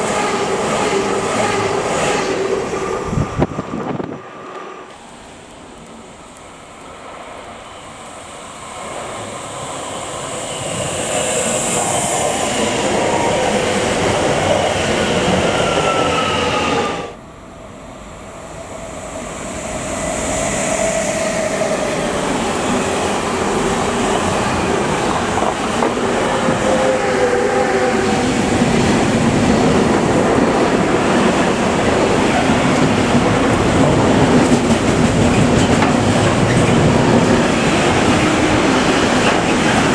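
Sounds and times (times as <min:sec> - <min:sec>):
train passing on rails: 0:00.0 - 0:39.9.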